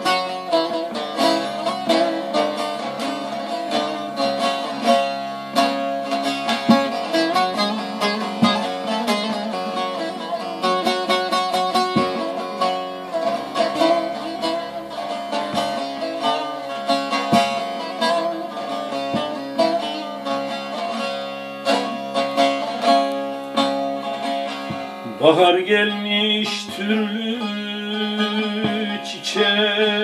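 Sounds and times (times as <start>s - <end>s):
long-necked lute picked with plectrum: 0.0s - 30.0s.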